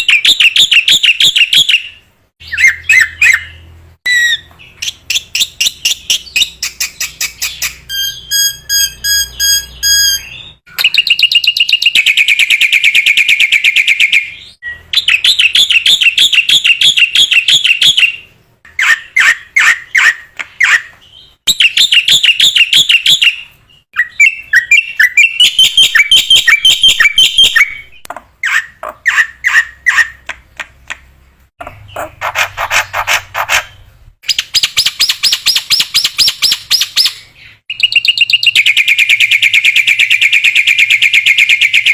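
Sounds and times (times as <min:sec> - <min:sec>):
bird whistle: 0:00.0 - 0:20.9, 0:21.5 - 0:30.2, 0:34.3 - 0:41.9.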